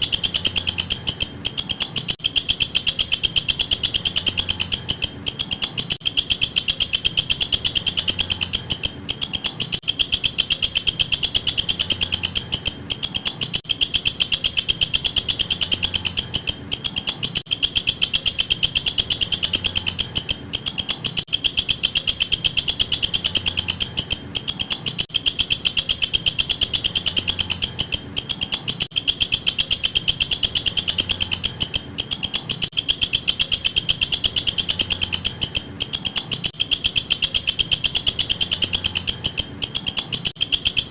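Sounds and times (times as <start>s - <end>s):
insect chirring: 0.0s - 40.9s.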